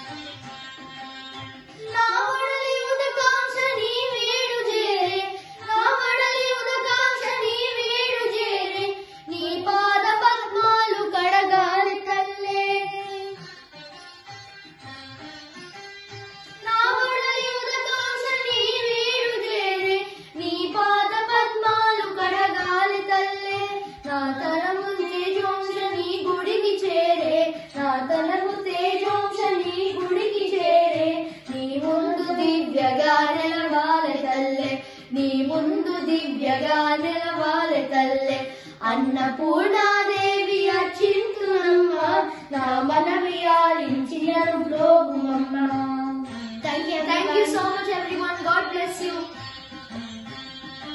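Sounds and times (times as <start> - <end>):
boys singing a devotional song: 1.7 - 13.5, 16.6 - 49.3.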